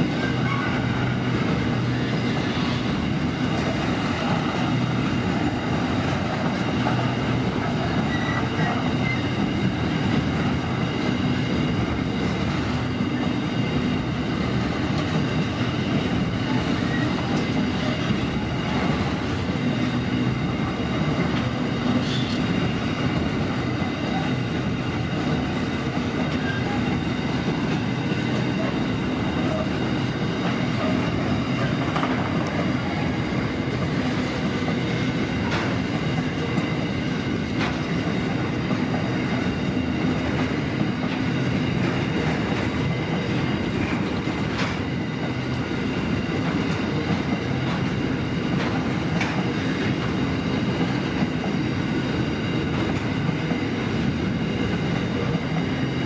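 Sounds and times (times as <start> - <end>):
faint high wheel squeal: 0.0 - 3.2, 6.6 - 10.0, 10.6 - 50.9
steel wheels rumbling on rail: 0.0 - 56.0
train wagons clanking: 0.0 - 56.0.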